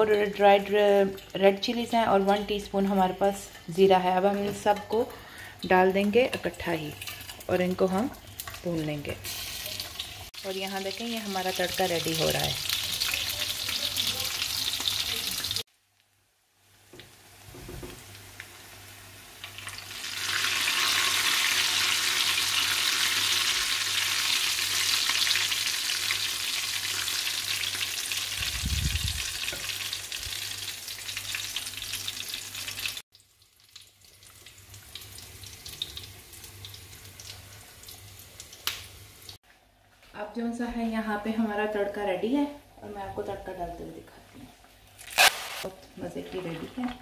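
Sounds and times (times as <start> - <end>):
spices sizzling in hot oil: 0.0 - 39.4.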